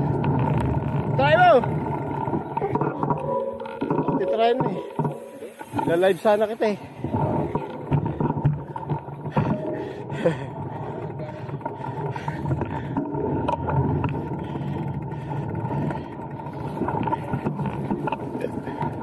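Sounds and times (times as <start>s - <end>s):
bike rattling clicks: 0.0s - 19.0s
bike tyres rumbling on dirt: 0.0s - 19.0s.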